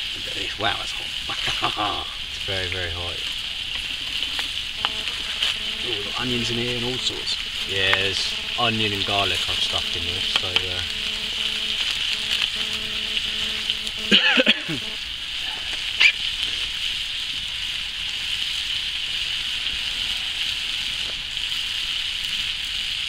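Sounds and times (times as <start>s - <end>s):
vegetables sizzling in a pan: 0.0s - 23.0s.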